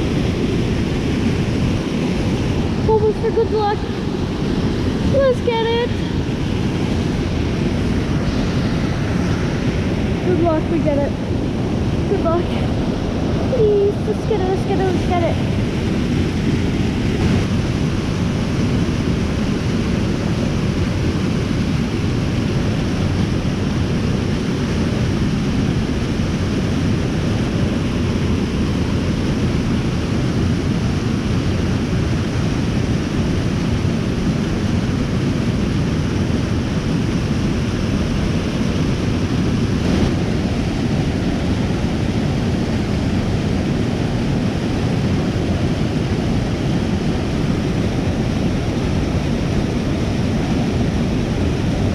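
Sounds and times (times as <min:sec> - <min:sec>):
waterfall rushing: 0:00.0 - 0:28.0, 0:35.8 - 0:51.9.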